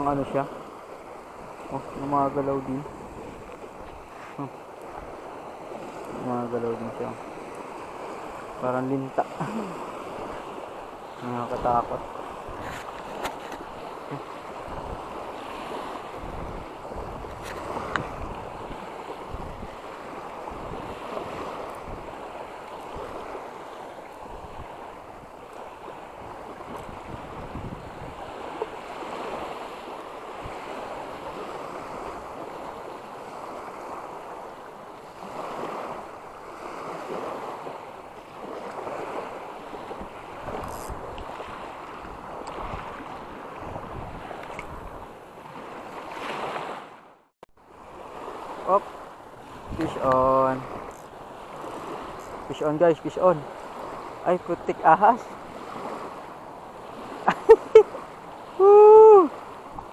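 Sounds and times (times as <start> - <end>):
wind buffeting microphone: 0.0 - 46.8, 47.8 - 54.3
small waves breaking on sand: 0.0 - 59.9.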